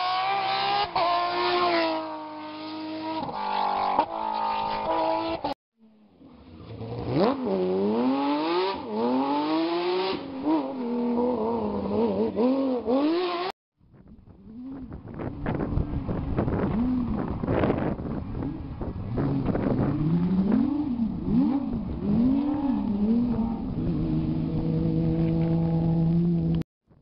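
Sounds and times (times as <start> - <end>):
rally car engine at full throttle: 0.0 - 26.6.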